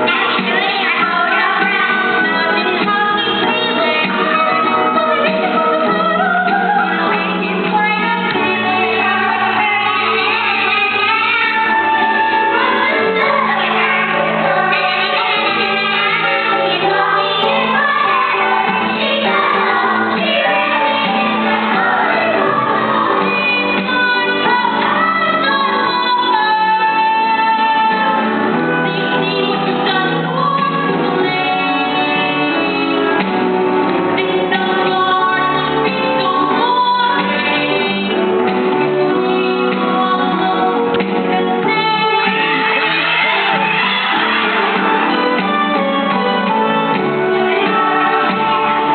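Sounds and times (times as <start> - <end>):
woman singing: 0.0 - 33.1, 34.2 - 48.9
instrumental accompaniment: 0.0 - 48.9.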